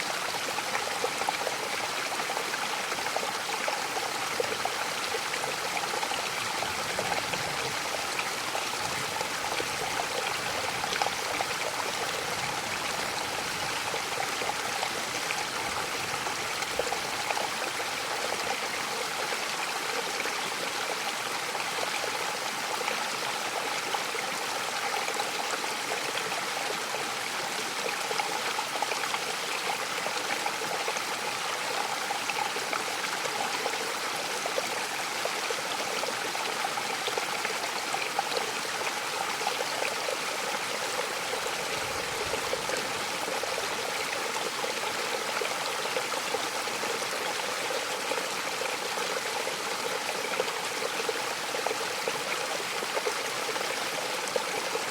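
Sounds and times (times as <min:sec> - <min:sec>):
water rushing over rocks: 0:00.0 - 0:54.9.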